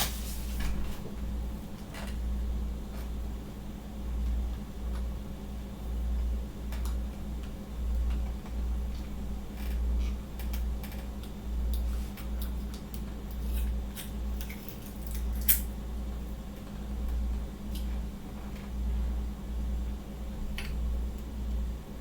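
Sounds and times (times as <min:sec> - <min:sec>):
low hum and rumble: 0:00.0 - 0:22.0.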